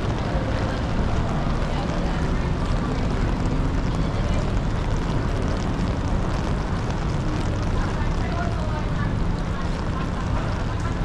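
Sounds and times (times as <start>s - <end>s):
rain splashing on wet paving: 0.0s - 11.0s
wind rumbling on microphone: 0.0s - 11.0s.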